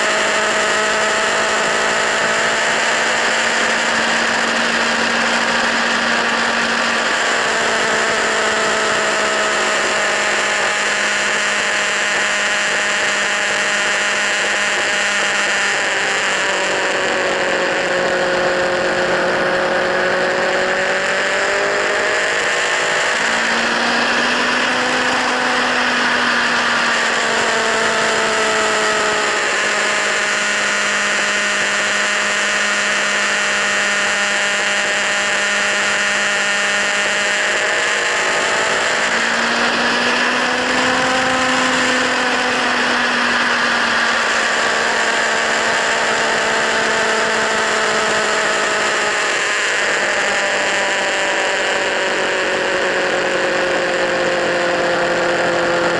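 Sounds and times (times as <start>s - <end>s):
motorcycle engine at high revs: 0.0s - 55.9s.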